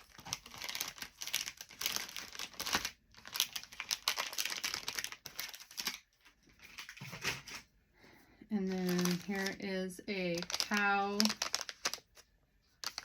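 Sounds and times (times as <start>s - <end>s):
crinkly wrapping rustling: 0.0s - 7.7s, 8.6s - 13.0s.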